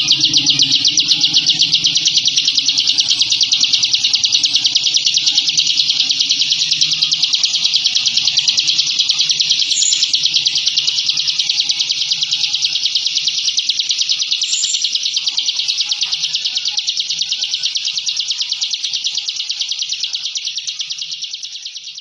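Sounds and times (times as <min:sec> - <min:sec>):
bird singing rapid trill: 0:00.0 - 0:22.0.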